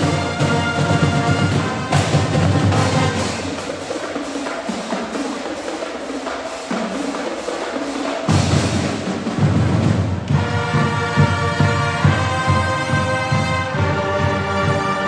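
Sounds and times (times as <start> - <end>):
marching band playing: 0.0 - 15.0
sharp dry percussion strikes: 0.0 - 15.0.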